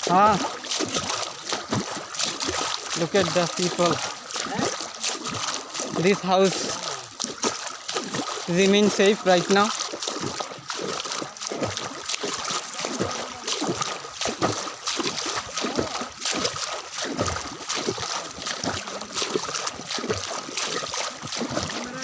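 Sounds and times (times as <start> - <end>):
person wading through floodwater: 0.0 - 22.0.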